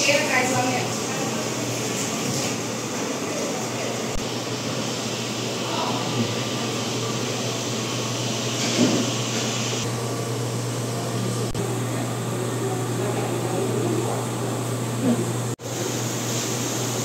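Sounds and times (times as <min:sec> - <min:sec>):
air conditioning hiss: 0:00.0 - 0:17.0
low machine hum: 0:00.0 - 0:17.0.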